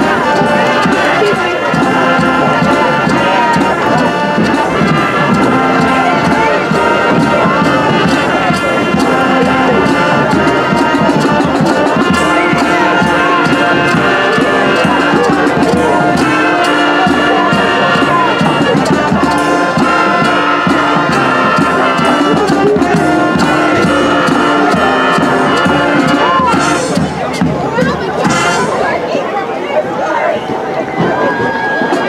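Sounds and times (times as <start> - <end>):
marching band brass playing: 0.0 - 32.0.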